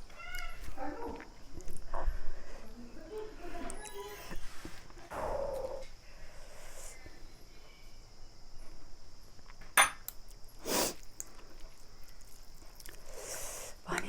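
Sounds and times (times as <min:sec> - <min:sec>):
quiet eating sounds: 0:00.0 - 0:14.0.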